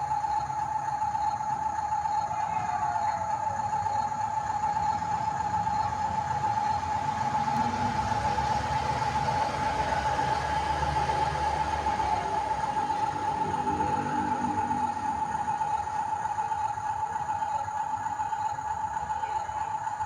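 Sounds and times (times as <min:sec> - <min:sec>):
high motor whine: 0:00.0 - 0:20.0.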